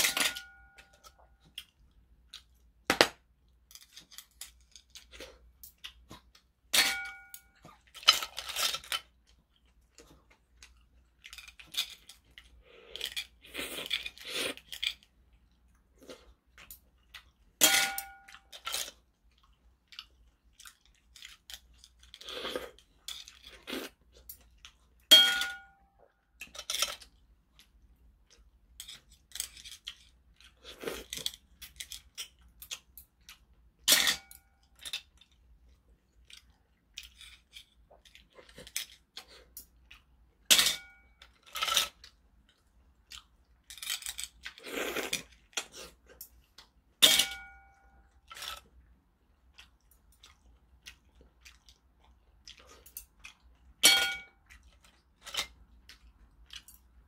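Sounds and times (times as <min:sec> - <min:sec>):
chewing shellfish: 0:01.0 - 0:06.7, 0:07.5 - 0:17.6, 0:18.4 - 0:25.1, 0:26.2 - 0:33.9, 0:34.6 - 0:40.5, 0:41.2 - 0:47.0, 0:48.0 - 0:53.8, 0:54.4 - 0:57.0.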